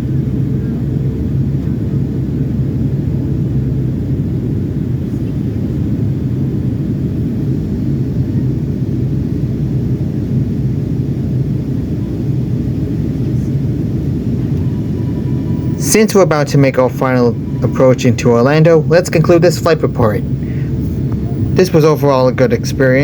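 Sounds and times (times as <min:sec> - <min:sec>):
constant low hum: 0:00.0 - 0:23.0
jet engine and airflow rumble: 0:00.0 - 0:23.0.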